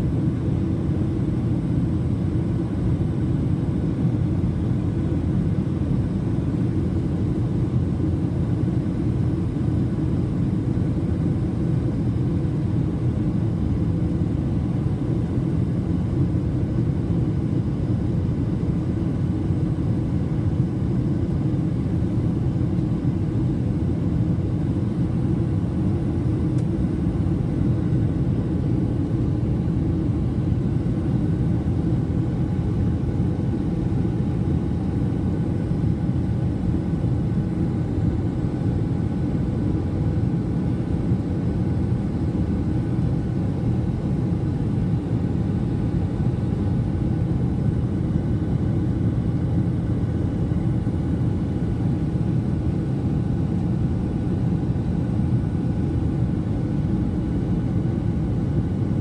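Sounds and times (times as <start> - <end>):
airliner cabin engine roar: 0.0 - 59.0
faint steady hums: 0.0 - 59.0.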